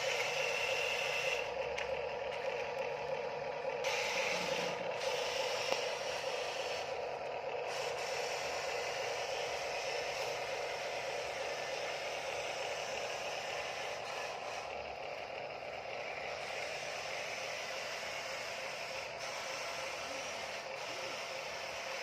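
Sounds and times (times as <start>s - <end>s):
high-pitched motor whine: 0.0s - 22.0s
toy truck motors whining: 0.0s - 22.0s.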